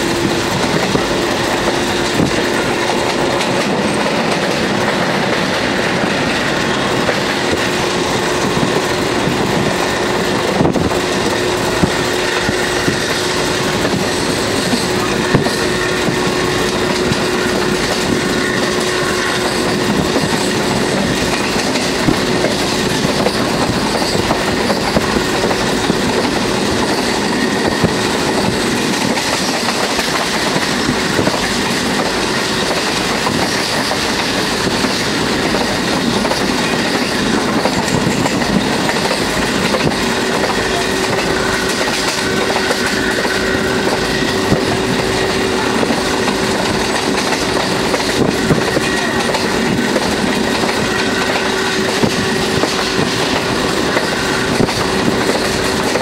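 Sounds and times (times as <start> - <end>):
train wheel and wind noise: 0.0 - 56.0
wheels clicking over rail joints: 0.0 - 56.0.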